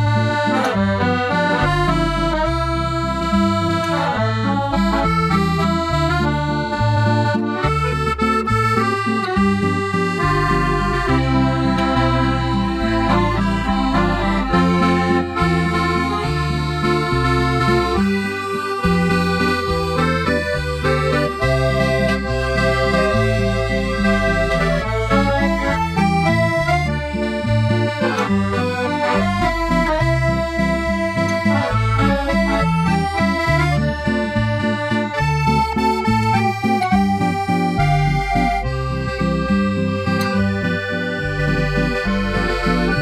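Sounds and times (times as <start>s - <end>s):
melody of held notes: 0.0s - 43.0s
rhythmic bass line: 0.0s - 43.0s.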